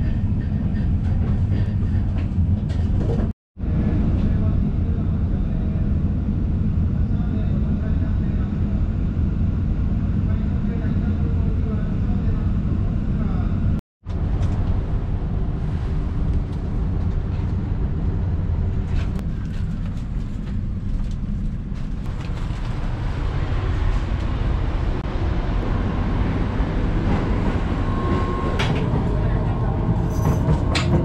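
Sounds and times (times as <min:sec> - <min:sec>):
train car interior rumble: 0:00.0 - 0:31.0.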